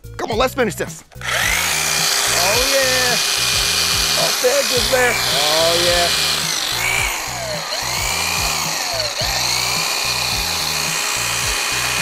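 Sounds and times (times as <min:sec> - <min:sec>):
background music with steady beat: 0:00.0 - 0:12.0
electric hedge trimmer cutting: 0:01.2 - 0:12.0.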